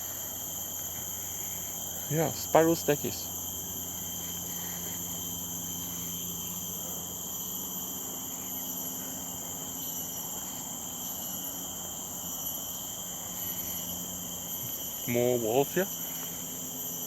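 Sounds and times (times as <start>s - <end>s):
insect chorus high-pitched tones: 0.0s - 17.0s.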